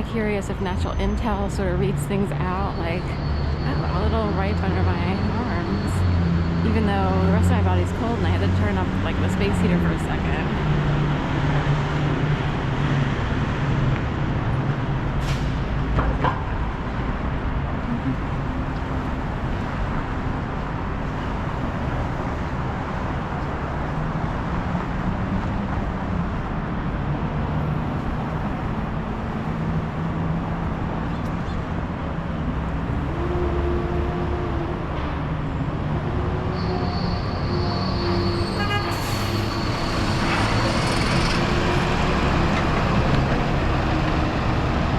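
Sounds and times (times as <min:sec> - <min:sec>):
traffic engines running and passing: 0:00.0 - 0:44.9.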